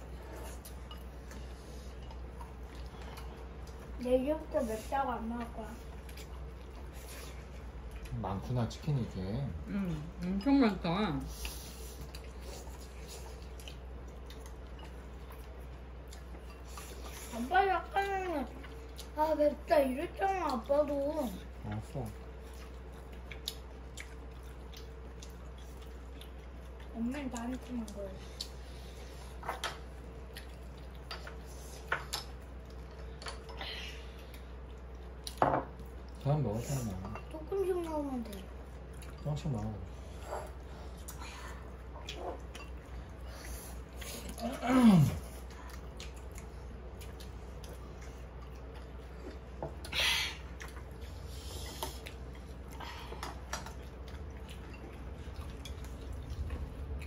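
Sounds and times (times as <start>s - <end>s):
low hum of room tone: 0.0s - 57.0s
soft chewing: 0.0s - 57.0s.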